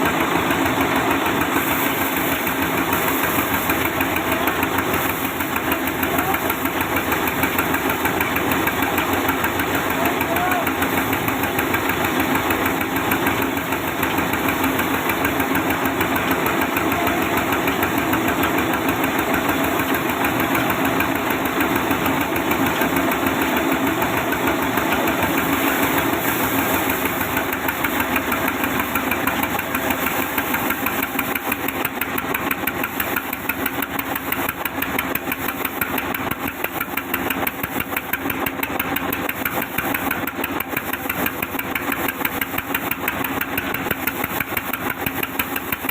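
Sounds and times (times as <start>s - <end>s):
sawmill machinery droning: 0.0s - 45.9s.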